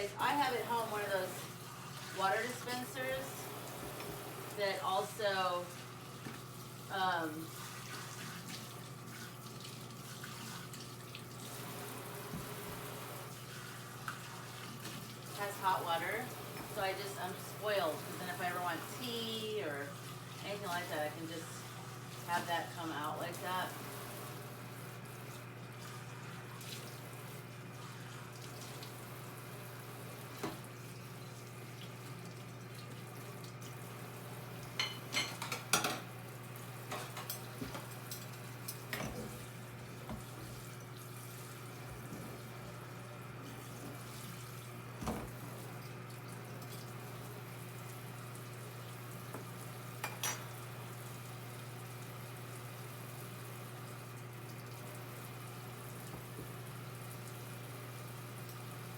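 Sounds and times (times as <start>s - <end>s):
microwave oven humming: 0.0s - 58.9s.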